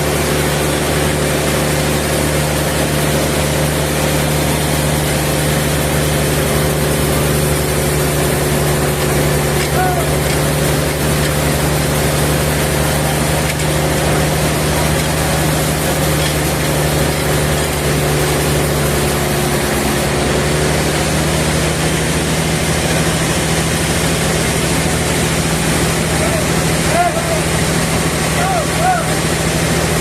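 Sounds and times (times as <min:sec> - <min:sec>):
sawmill engine drone: 0:00.0 - 0:30.0.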